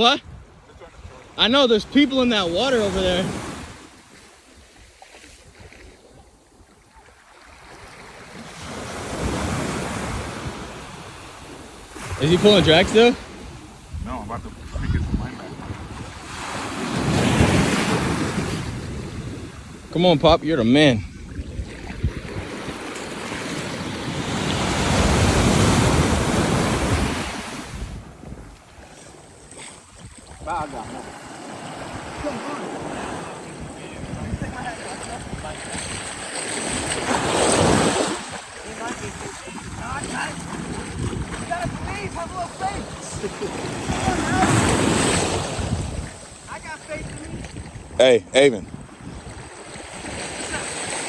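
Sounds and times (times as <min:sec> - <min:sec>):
surf breaking on a beach: 0:00.0 - 0:51.0
wind buffeting microphone: 0:09.1 - 0:51.0.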